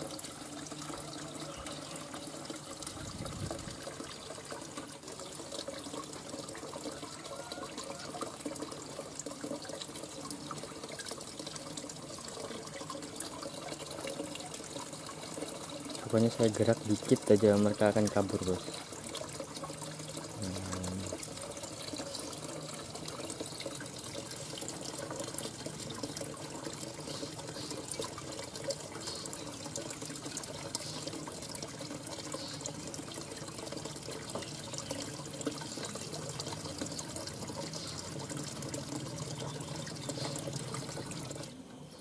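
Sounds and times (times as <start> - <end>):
water trickling: 0.0 - 42.0.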